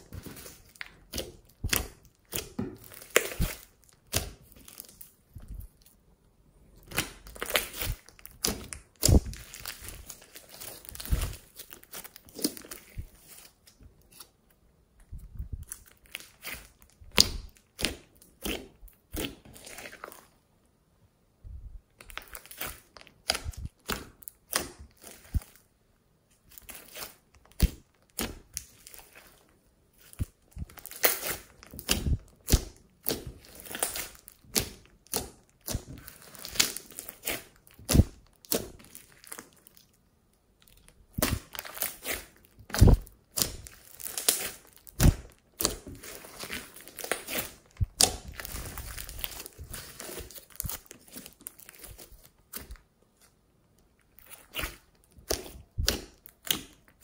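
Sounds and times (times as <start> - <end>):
slime crackling and popping: 0.0 - 6.0, 6.8 - 14.3, 15.6 - 20.3, 21.9 - 25.6, 26.4 - 57.0.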